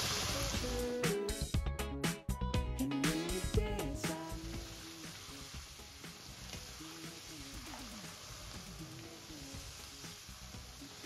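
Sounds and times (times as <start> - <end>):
onions sizzling in oil: 0.0 - 1.5, 3.1 - 11.0
quiet background music: 0.0 - 11.0.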